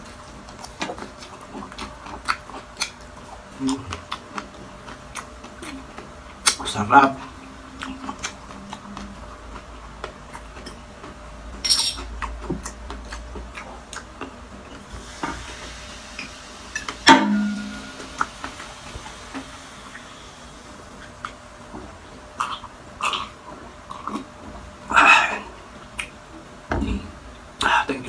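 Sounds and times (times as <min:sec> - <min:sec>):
chewing crispy food: 0:00.0 - 0:17.0, 0:18.1 - 0:26.2.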